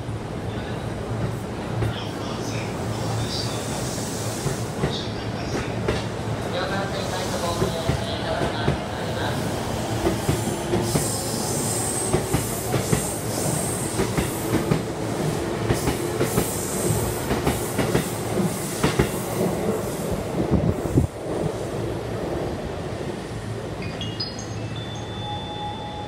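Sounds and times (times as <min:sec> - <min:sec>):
electric train rolling past: 0:00.0 - 0:26.0.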